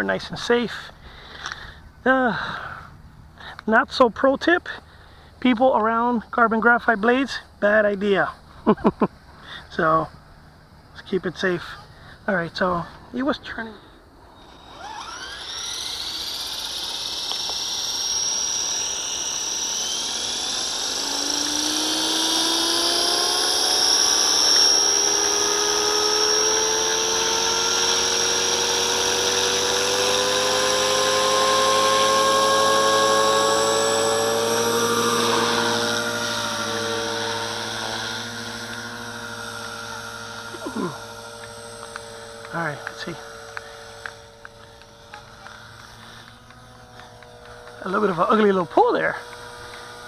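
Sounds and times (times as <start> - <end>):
rc helicopter motor whine: 0.0 - 50.0.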